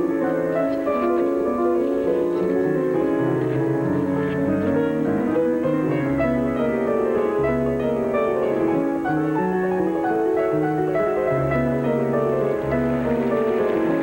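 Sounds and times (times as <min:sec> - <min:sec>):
slow classical piano music: 0:00.0 - 0:14.0.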